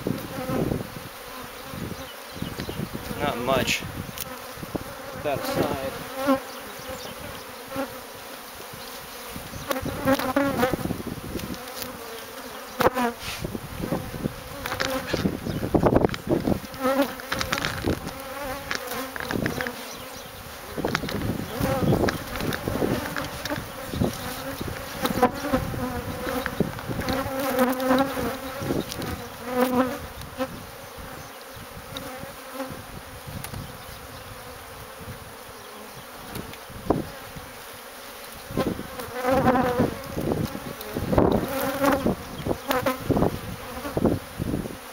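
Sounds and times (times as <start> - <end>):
honeybees humming: 0.0 - 44.9.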